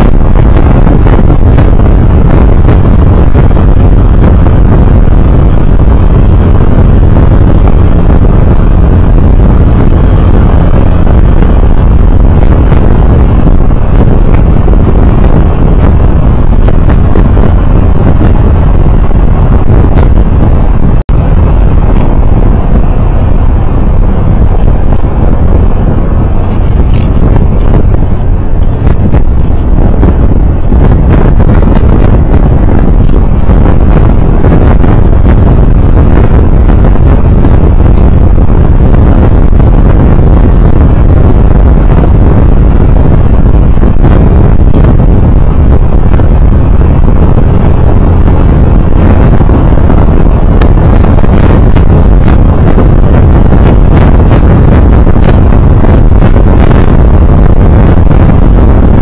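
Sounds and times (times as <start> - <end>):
road vehicle rumble: 0.0 - 59.0
wind buffeting microphone: 0.0 - 59.0.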